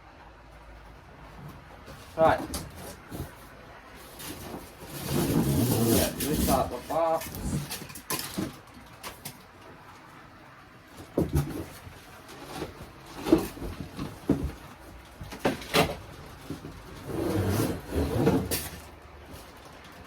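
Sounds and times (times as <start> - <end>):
cardboard packaging rustling: 1.4 - 9.5, 10.9 - 20.0.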